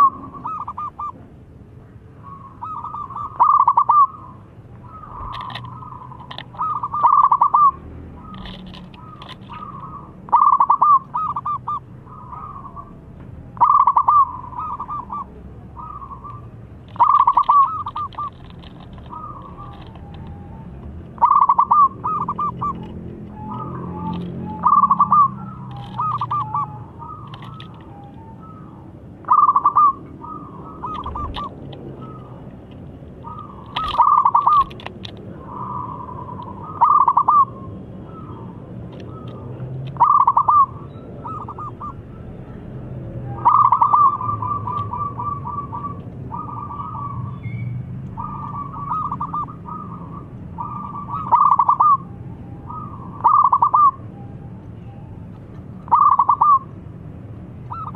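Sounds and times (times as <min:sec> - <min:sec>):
dove cooing: 0:00.0 - 0:01.2, 0:02.2 - 0:54.0, 0:55.9 - 0:56.7.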